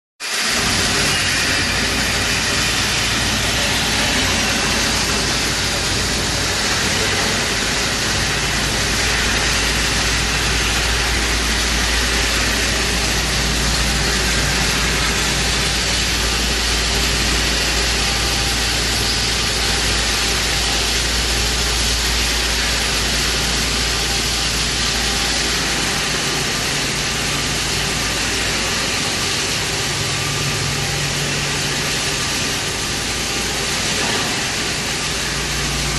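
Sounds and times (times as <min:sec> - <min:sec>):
grinding mill running: 0:00.2 - 0:35.9
deep machine hum: 0:00.5 - 0:33.9.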